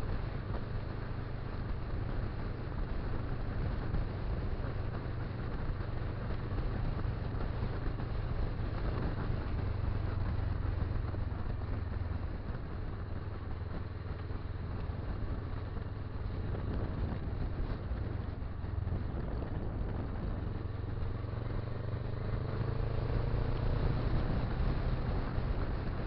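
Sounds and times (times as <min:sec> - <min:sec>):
motorcycle engine droning: 0:00.0 - 0:26.0
wind and road noise: 0:00.0 - 0:26.0.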